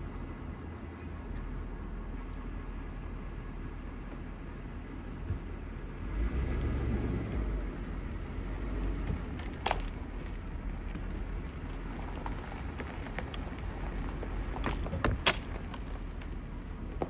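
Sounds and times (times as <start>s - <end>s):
car rumbling on dirt road: 0.0s - 17.0s.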